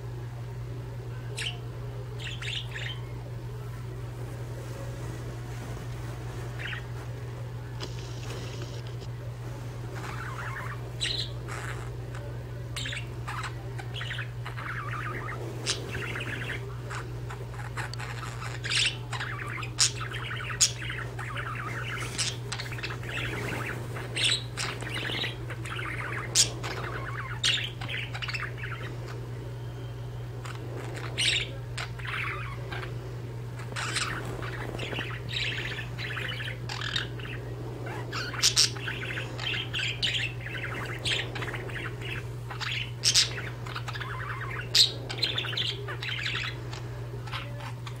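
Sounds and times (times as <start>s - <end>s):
steady low hum: 0.0s - 48.0s
budgerigars chattering and warbling: 1.3s - 1.6s, 2.2s - 3.2s, 6.5s - 7.0s, 9.9s - 29.4s, 30.2s - 48.0s.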